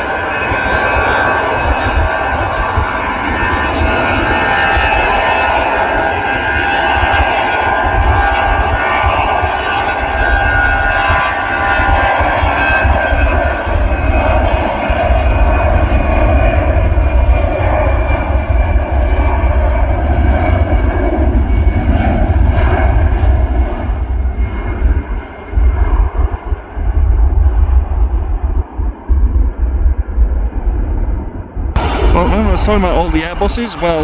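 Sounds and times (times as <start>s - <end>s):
jet engines roaring with whine: 0.0s - 34.0s.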